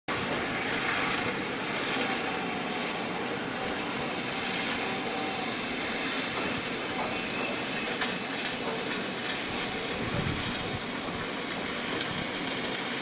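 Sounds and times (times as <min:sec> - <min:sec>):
engine drone: 0:00.1 - 0:13.0.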